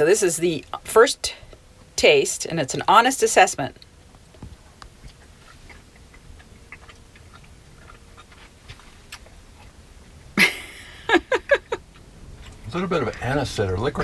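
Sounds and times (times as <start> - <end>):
quiet chewing: 0.0 - 14.0.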